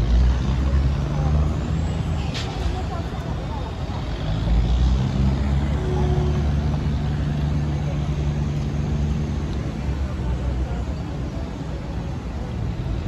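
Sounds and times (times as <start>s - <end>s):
city and river hum: 0.0s - 13.0s.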